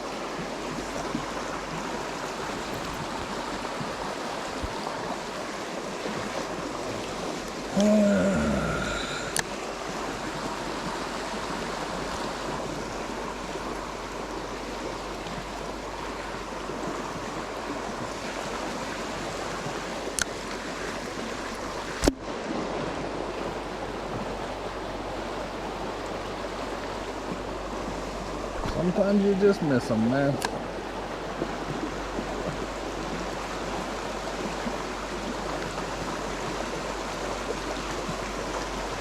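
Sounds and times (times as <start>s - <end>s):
flowing stream water: 0.0s - 39.0s.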